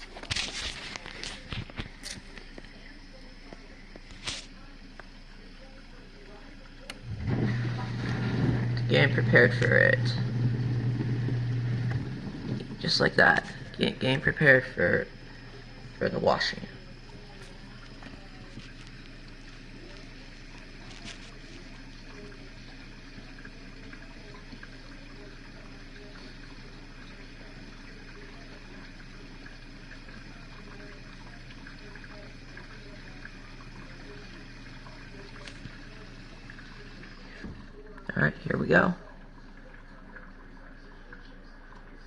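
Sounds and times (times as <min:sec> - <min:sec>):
low constant hum: 0:00.0 - 0:42.0
water running into dishwasher: 0:06.5 - 0:42.0.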